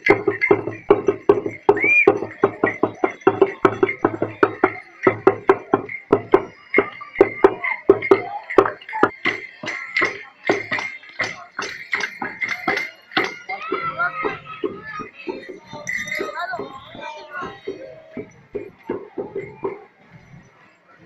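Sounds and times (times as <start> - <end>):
parade drums beating: 0.0 - 20.6.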